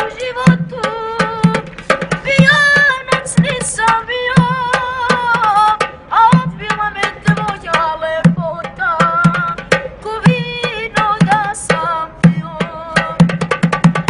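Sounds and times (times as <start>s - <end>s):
boy singing: 0.0s - 13.9s
hand drum thumps and slaps: 0.5s - 14.0s.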